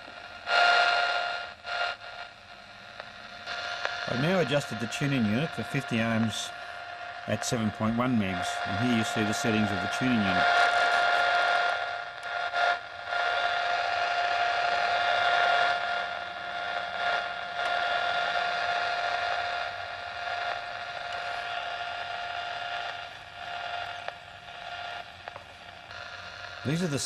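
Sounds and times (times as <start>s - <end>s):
radio receiver speaker hissing: 0.0s - 27.0s.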